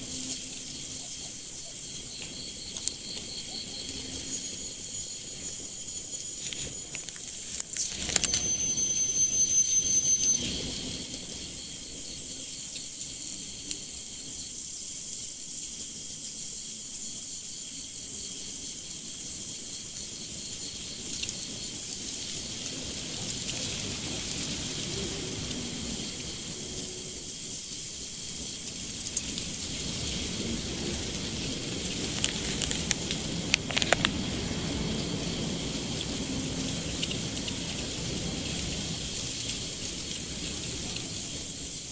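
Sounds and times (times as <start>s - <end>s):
high-pitched hiss: 0.0s - 41.9s.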